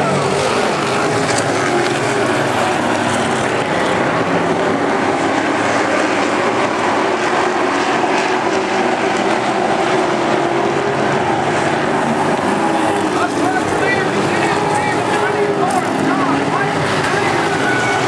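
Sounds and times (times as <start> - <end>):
racing truck engines droning: 0.0 - 18.0.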